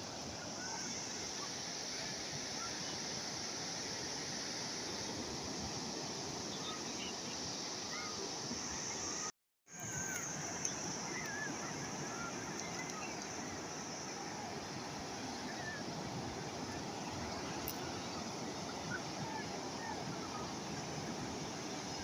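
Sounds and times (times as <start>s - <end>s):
calm sea waves: 0.0s - 22.0s.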